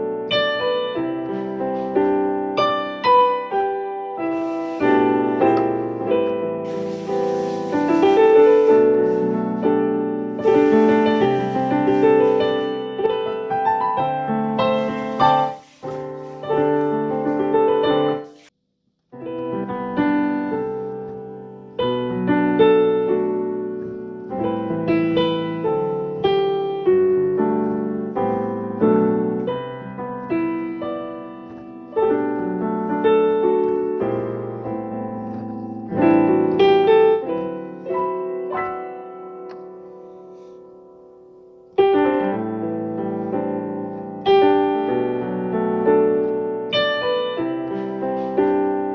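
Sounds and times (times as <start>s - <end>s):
gentle solo piano melody: 0.0s - 18.5s, 19.2s - 48.9s.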